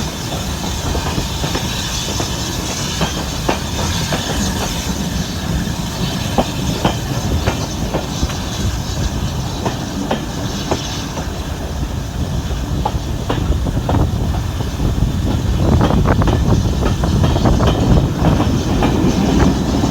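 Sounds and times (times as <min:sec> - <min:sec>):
railway carriage rumbling: 0:00.0 - 0:19.9.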